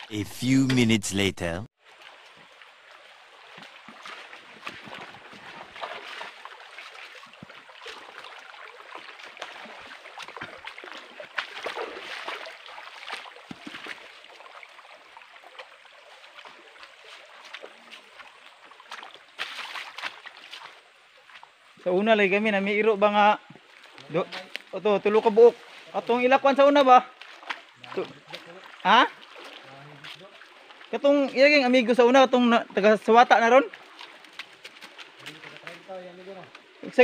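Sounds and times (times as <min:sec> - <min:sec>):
stream running over rocks: 0:00.0 - 0:37.0
footsteps on stones and in water: 0:01.8 - 0:21.8, 0:23.4 - 0:37.0.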